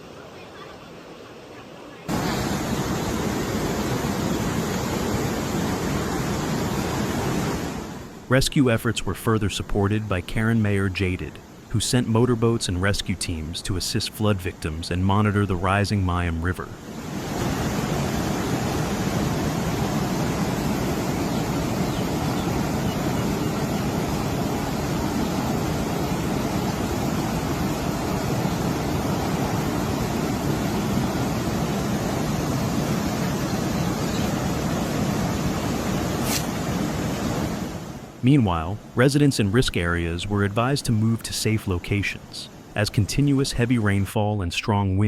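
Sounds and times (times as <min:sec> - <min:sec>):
rush of fast-flowing floodwater: 0:00.0 - 0:44.1.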